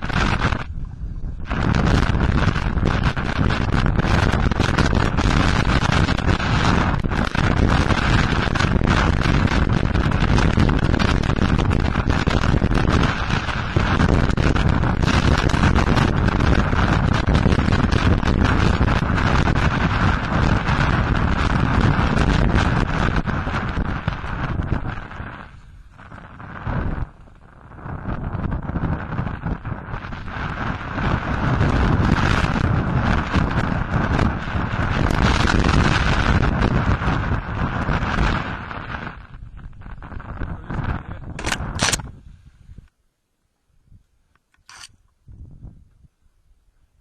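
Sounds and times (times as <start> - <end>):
wind buffeting microphone: 0.0 - 42.9, 43.8 - 47.0.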